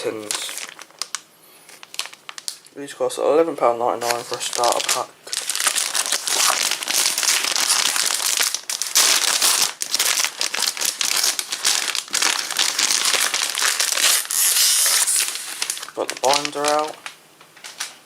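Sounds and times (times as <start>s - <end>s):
plastic packaging crinkling: 0.0s - 3.0s, 3.8s - 18.0s.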